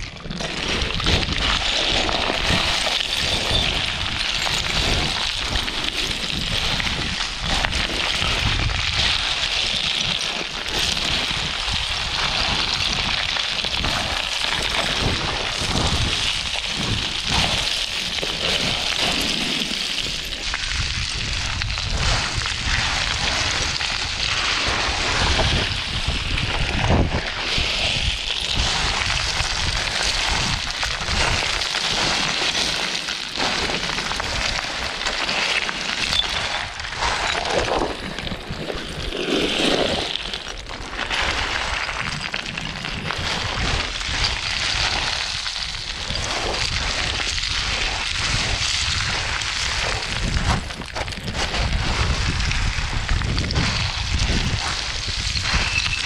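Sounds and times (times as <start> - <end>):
footsteps crunching on scree: 0.0 - 56.0.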